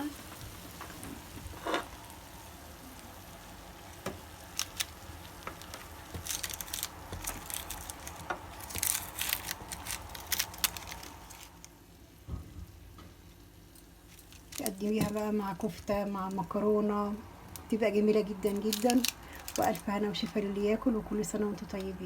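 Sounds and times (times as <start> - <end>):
hot food crackling: 0.0 - 22.0.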